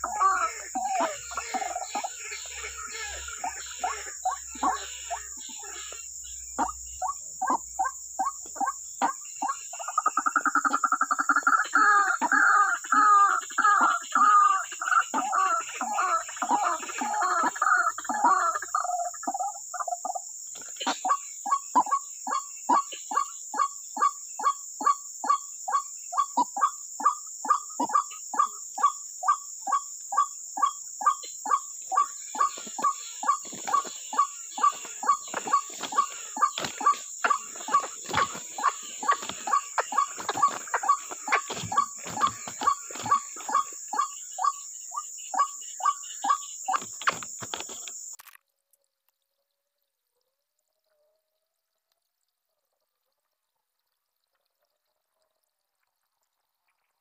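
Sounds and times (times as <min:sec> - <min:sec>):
high insect drone: 0:00.0 - 0:48.3.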